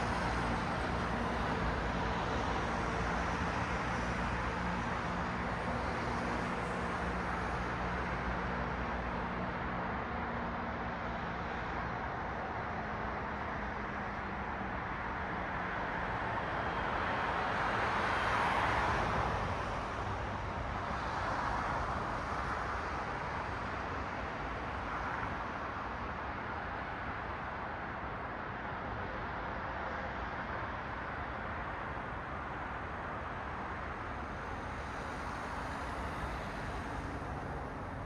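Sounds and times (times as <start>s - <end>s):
traffic noise: 0.0s - 38.0s.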